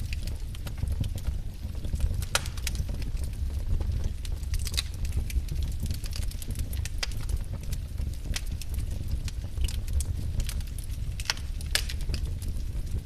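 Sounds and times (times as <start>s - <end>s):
firewood crackling and popping: 0.0s - 13.0s
wood fire flames rumbling: 0.0s - 13.0s.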